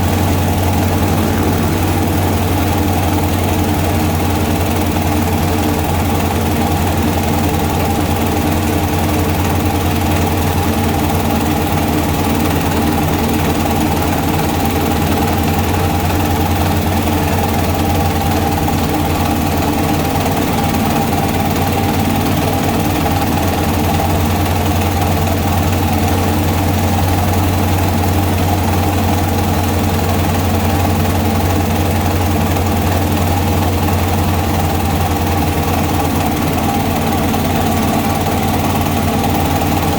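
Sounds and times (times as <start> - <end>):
diesel engine running milling machine: 0.0 - 39.9.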